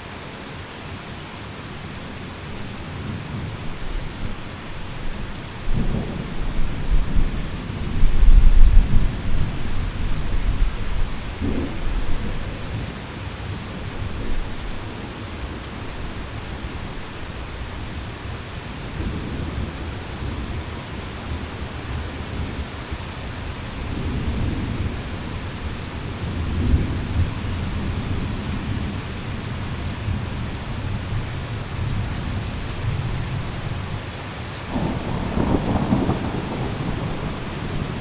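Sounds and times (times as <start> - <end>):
heavy rain falling: 0.0 - 38.0
low rolling thunder: 2.6 - 18.0, 18.8 - 34.0, 34.7 - 38.0.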